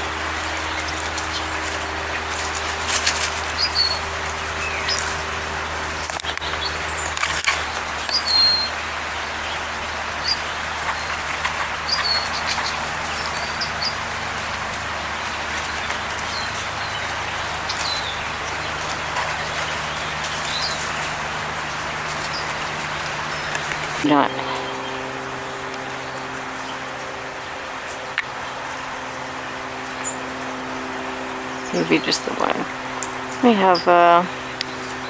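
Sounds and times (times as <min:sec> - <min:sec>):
songbirds chirping: 0:00.0 - 0:35.0
steady outdoor hiss: 0:00.0 - 0:35.0.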